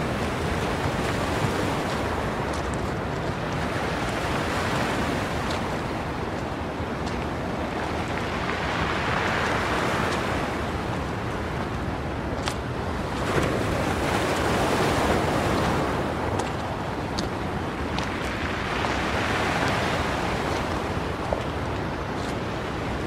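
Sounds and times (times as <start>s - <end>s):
surf rushing: 0.0s - 23.0s
wind: 0.0s - 23.0s.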